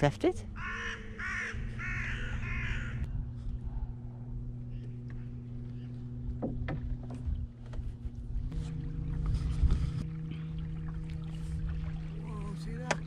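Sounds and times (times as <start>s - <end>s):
low wind: 0.0s - 13.0s
small boat motor humming: 0.0s - 13.0s
water rumble: 0.0s - 13.0s.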